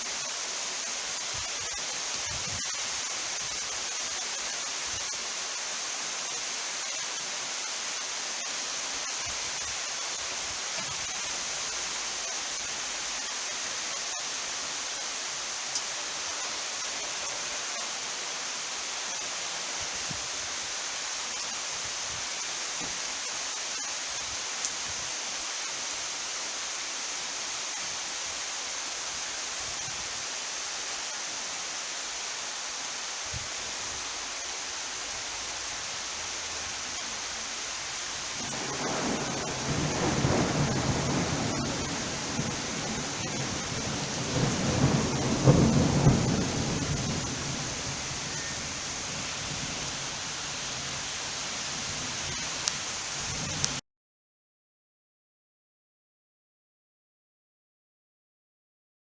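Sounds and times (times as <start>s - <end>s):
heavy rain falling: 0.0s - 53.8s.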